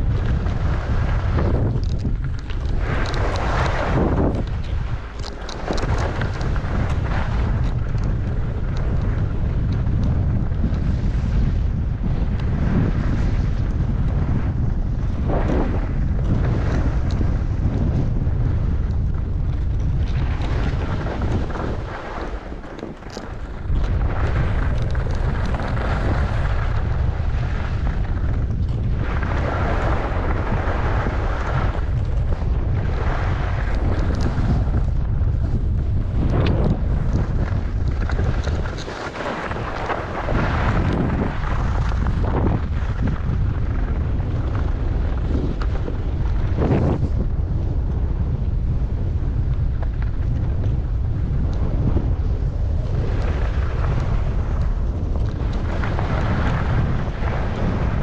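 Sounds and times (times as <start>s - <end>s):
skis scraping over snow: 0.0s - 58.0s
wind buffeting microphone: 0.0s - 58.0s.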